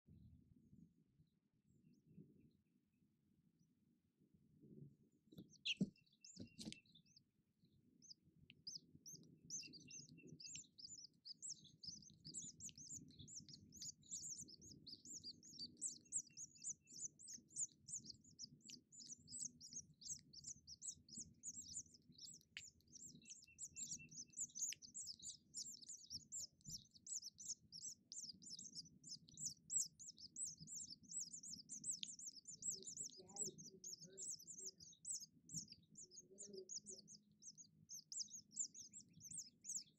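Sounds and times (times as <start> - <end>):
nestlings chirping: 5.3 - 7.2, 8.0 - 39.9.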